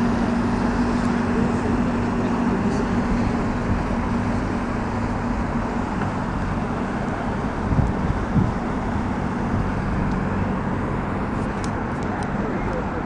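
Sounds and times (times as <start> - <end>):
boat engine drone: 0.0 - 13.0
rushing wind: 0.0 - 13.0
water noise: 0.0 - 13.0.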